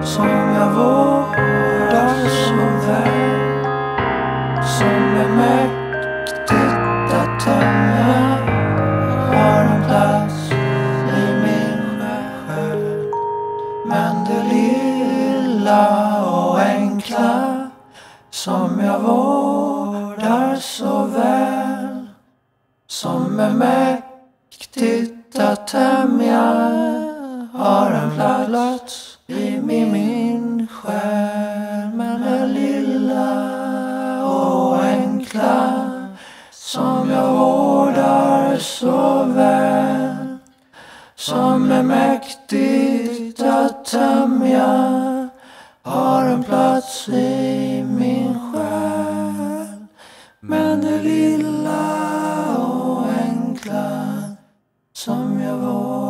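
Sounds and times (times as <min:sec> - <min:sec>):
a cappella singing: 0:00.0 - 0:03.7, 0:04.6 - 0:22.3, 0:22.9 - 0:56.0.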